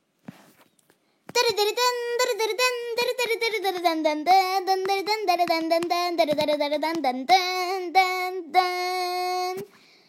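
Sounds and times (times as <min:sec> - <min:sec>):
child singing: 0:01.3 - 0:09.7.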